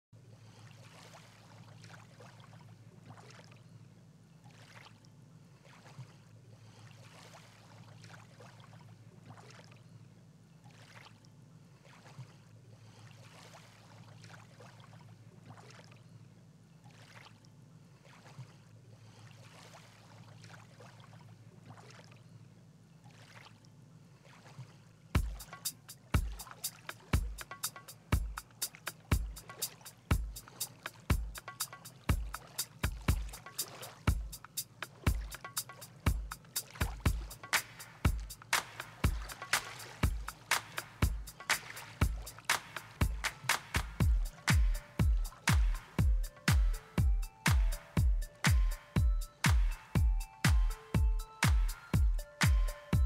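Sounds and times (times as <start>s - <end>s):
water swishing: 0.3s - 3.8s, 4.4s - 10.0s, 10.6s - 16.2s, 16.8s - 50.7s.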